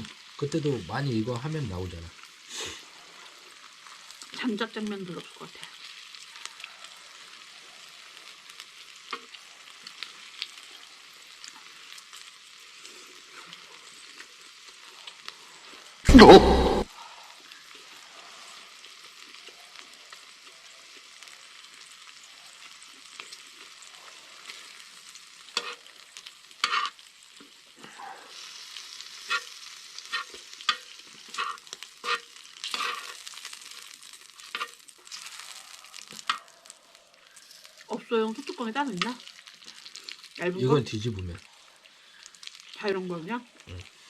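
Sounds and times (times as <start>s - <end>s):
meat sizzling on a griddle: 0.0s - 44.0s.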